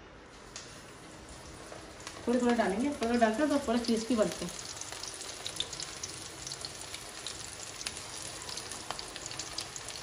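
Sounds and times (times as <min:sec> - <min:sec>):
batter deep-frying in oil: 0:00.4 - 0:10.0.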